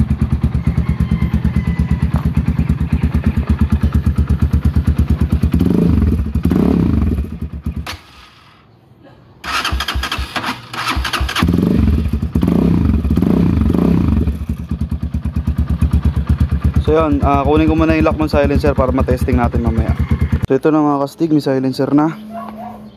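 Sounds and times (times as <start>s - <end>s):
motorcycle engine idling and revving: 0.0s - 8.7s, 9.4s - 21.0s.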